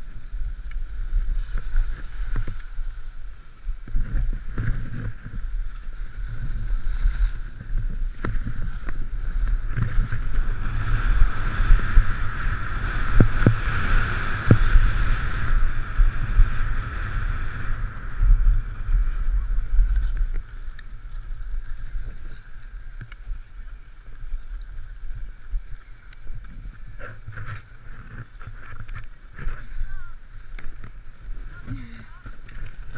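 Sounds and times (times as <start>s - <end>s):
skis scraping over snow: 0.0s - 32.9s
wind buffeting microphone: 0.0s - 32.9s.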